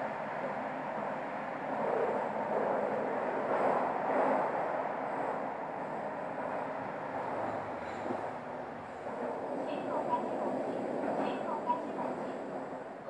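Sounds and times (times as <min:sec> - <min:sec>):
subway train rushing noise: 0:00.0 - 0:13.0.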